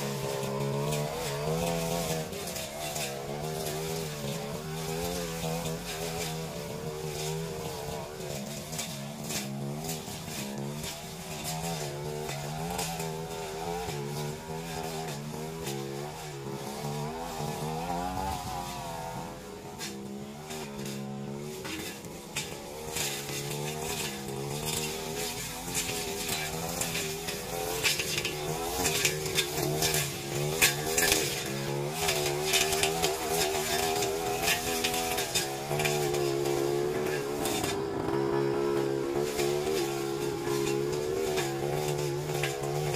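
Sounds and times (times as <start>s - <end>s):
blade cutting through weeds: 0.0s - 42.9s
brush cutter engine running: 0.0s - 42.9s.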